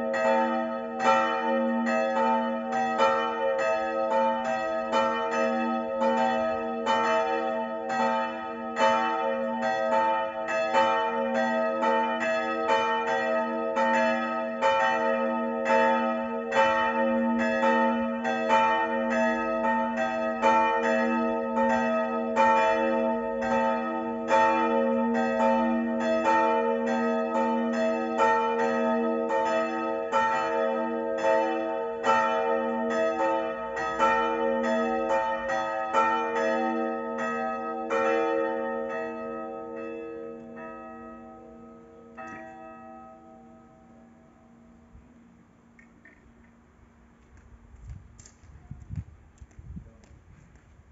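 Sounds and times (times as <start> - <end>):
church bells ringing: 0.0 - 45.8.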